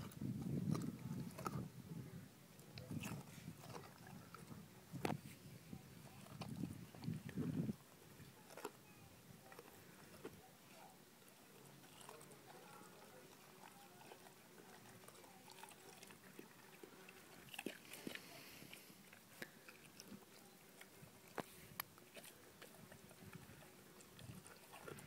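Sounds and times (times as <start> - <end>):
dog chewing and crunching: 0.0 - 1.7, 2.6 - 5.3, 5.9 - 25.0.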